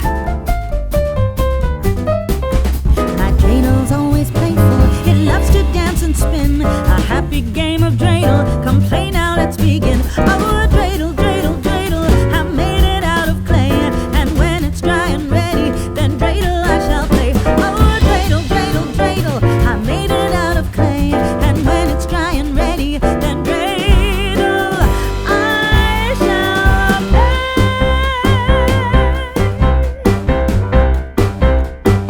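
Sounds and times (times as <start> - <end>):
upbeat swing jazz song with singing: 0.0 - 32.0.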